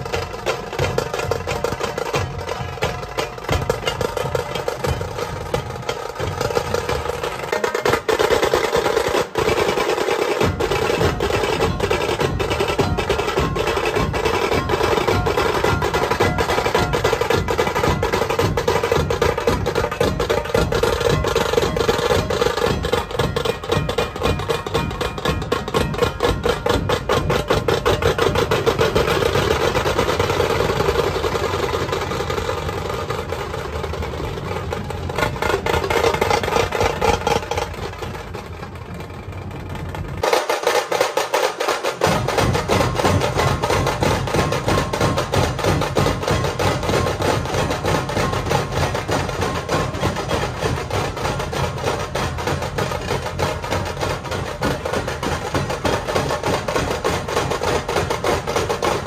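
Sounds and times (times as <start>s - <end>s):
big drums beating: 0.0s - 59.0s
fast drum rolls: 0.0s - 59.0s.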